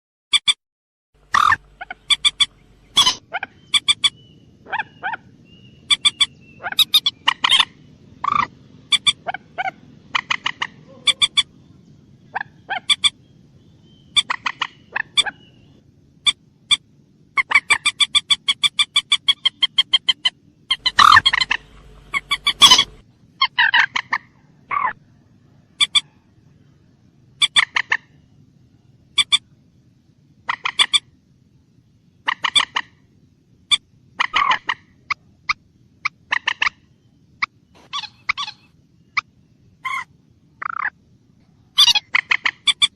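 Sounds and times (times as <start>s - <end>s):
moorhen calling: 1.2s - 25.0s, 25.7s - 26.3s, 27.3s - 28.2s, 29.1s - 29.5s, 30.4s - 31.1s, 32.2s - 33.0s, 33.6s - 41.0s, 41.7s - 42.9s.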